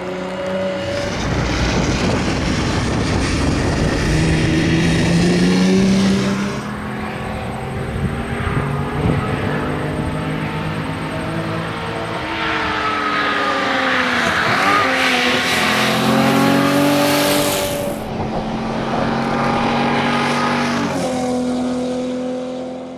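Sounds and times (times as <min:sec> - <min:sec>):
car engine driven hard: 0:00.0 - 0:22.9.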